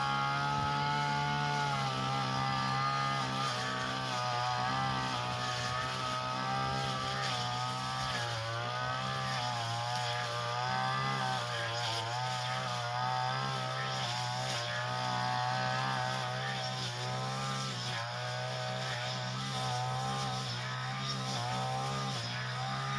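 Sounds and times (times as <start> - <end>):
grass cutter engine running: 0.0 - 22.9.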